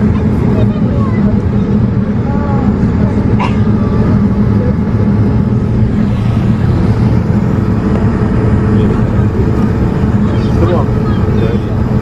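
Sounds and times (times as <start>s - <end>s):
jet engines: 0.0s - 12.0s.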